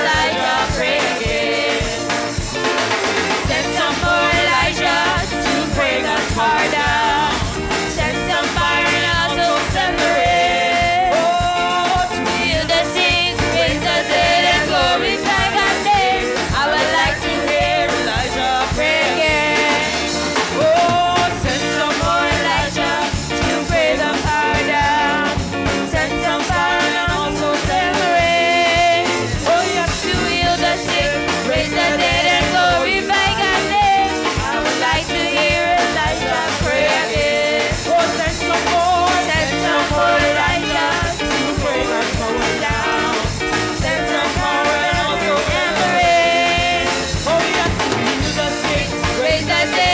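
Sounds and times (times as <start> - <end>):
women singing: 0.0 - 2.6, 3.2 - 49.9
band playing: 0.0 - 49.9
drum kit beat: 0.0 - 49.9.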